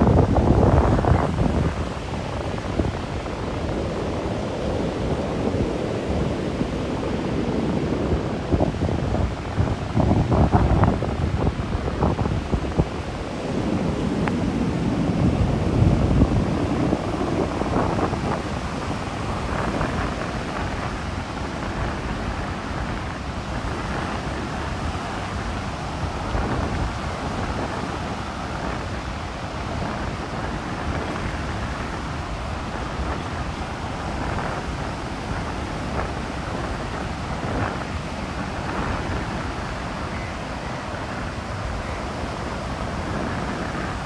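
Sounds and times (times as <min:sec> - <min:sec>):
surf breaking on beach: 0:00.0 - 0:44.0
wind buffeting microphone: 0:00.0 - 0:44.0.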